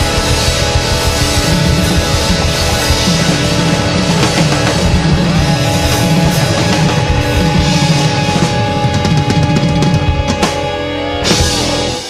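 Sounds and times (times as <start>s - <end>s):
bass guitar: 0.0s - 12.0s
drums: 0.0s - 12.0s
electric guitar: 0.0s - 12.0s.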